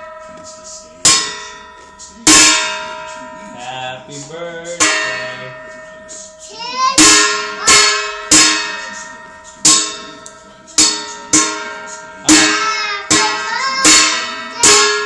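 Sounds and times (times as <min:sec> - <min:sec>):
sharp ringing strikes: 0:00.0 - 0:15.0.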